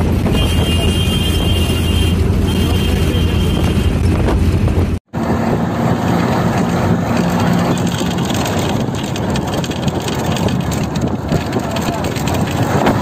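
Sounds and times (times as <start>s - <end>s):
bus engine drone: 0.0s - 13.0s
tyre and wind noise: 0.0s - 13.0s.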